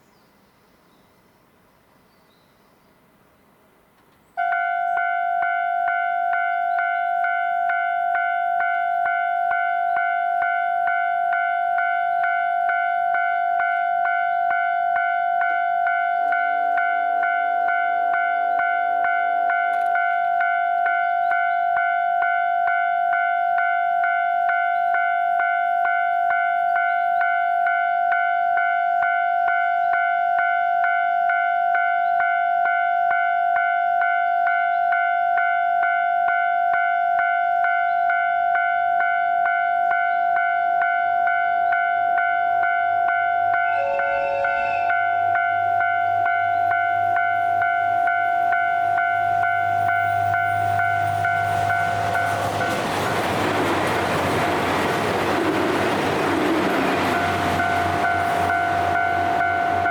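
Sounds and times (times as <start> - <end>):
train horn: 4.4 - 52.9, 56.4 - 59.9
railroad crossing bell dinging: 4.4 - 59.9.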